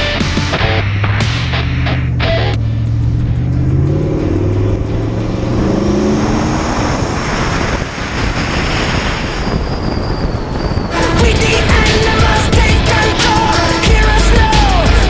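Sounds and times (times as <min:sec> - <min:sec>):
engine accelerating: 0:00.0 - 0:15.0
turbo whine: 0:00.0 - 0:15.0
rush of air and road noise: 0:01.2 - 0:14.9.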